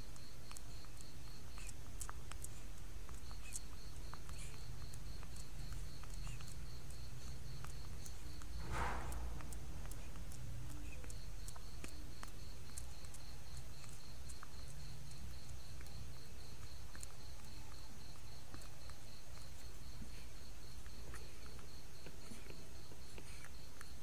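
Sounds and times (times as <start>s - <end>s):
constant low hum: 0.0s - 24.0s
insect chirping: 0.0s - 24.0s.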